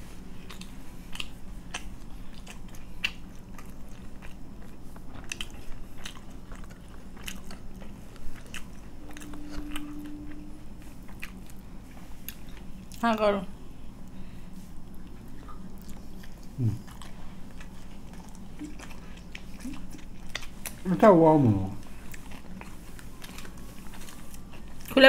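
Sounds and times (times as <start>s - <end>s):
low hum: 0.0s - 25.0s
chewing crunchy food: 0.1s - 13.2s, 14.0s - 25.0s.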